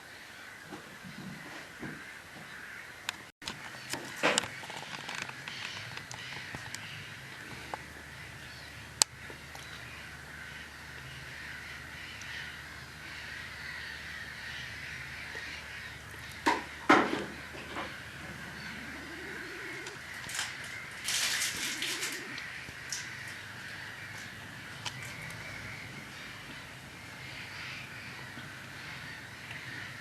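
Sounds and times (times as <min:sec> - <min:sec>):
distant bird calls: 0:00.0 - 0:30.0
crows cawing: 0:00.1 - 0:30.0.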